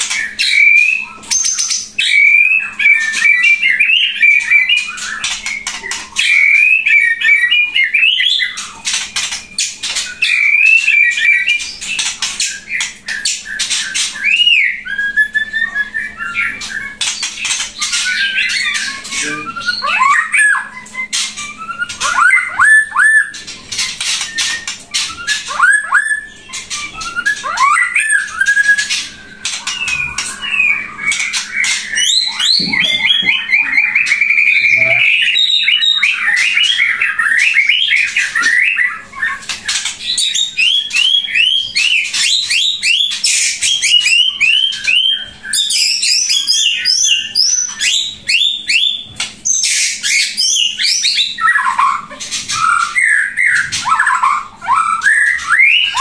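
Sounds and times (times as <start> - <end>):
bird singing with chatter and whistles: 0.0 - 56.0.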